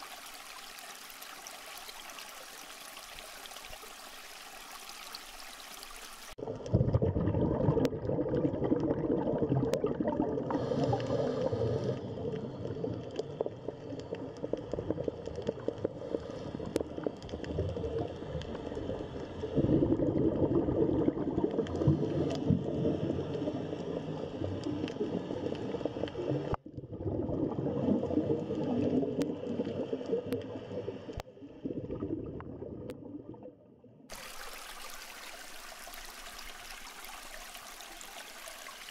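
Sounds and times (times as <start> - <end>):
bubbling and gurgling: 0.0 - 38.9.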